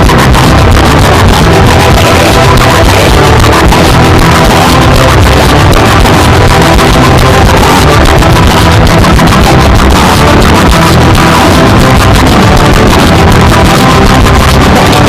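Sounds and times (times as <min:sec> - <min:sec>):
loud dense music: 0:00.0 - 0:15.0.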